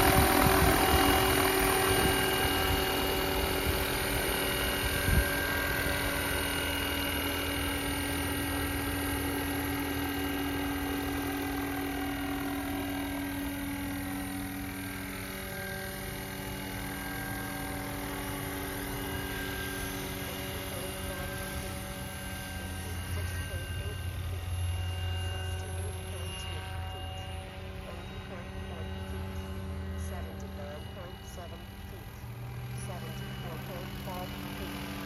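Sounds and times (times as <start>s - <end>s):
model helicopter motor whine: 0.0s - 35.0s.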